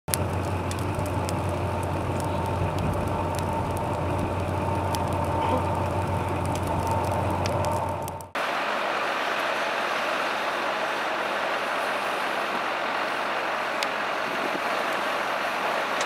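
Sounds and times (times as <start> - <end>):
fire crackles and pops: 0.1 - 16.0
fire roaring: 0.1 - 16.0.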